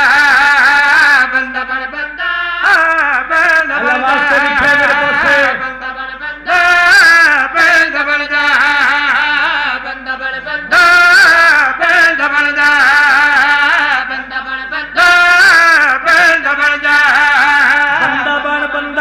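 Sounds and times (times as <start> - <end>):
men chanting a lament: 0.0 - 19.0.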